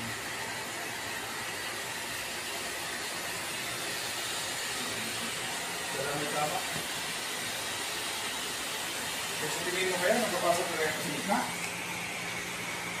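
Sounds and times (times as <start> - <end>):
blower fan rushing air: 0.0 - 13.0.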